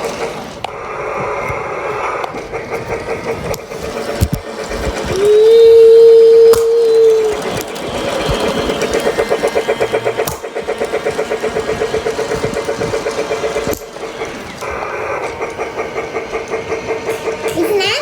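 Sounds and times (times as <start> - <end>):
toy train rapid pulsing sound effect: 0.0 - 18.0.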